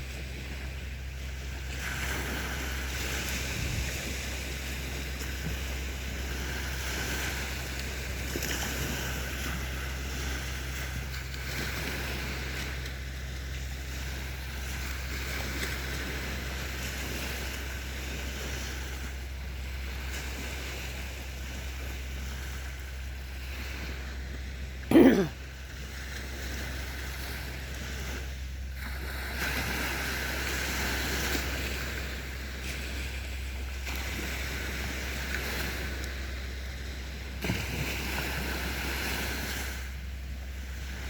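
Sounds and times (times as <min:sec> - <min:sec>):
sea waves washing onto beach: 0:00.0 - 0:41.0.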